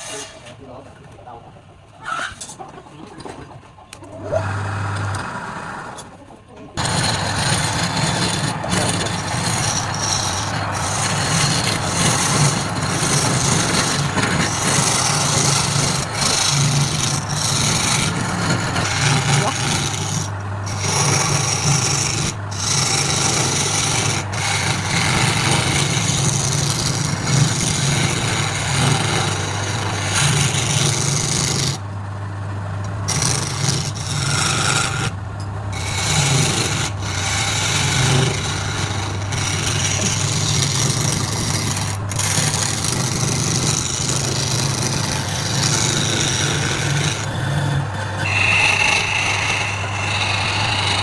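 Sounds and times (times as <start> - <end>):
wood lathe humming: 4.2 - 6.1, 6.8 - 51.0
turning tool rasping on wood: 4.3 - 6.0, 6.8 - 31.9, 32.9 - 51.0.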